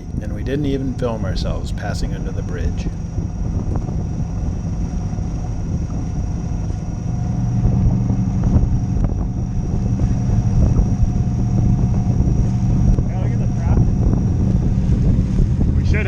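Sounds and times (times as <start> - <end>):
boat engine running: 0.0 - 16.0
wind on microphone: 0.0 - 16.0.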